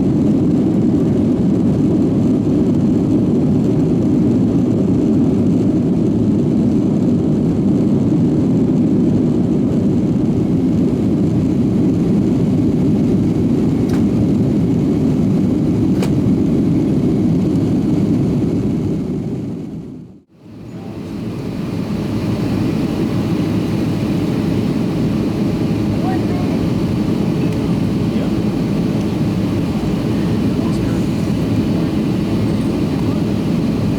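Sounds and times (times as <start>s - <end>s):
jet engines roaring in cabin: 0.0s - 33.9s.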